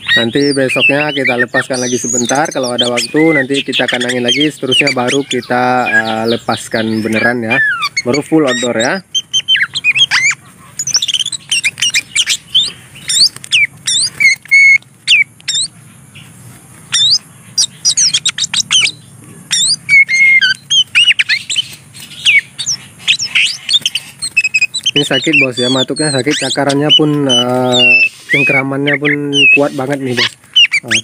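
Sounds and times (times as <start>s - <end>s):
bird whistled chirps: 0.0s - 15.7s, 16.9s - 31.0s
bird squawky notes: 0.0s - 31.0s.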